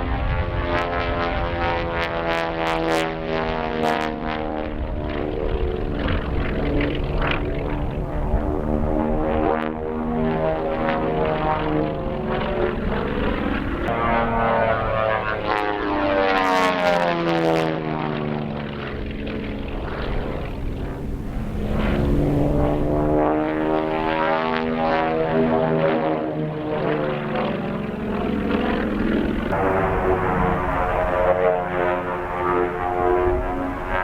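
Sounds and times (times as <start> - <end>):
propeller airplane flying past: 0.0 - 34.0.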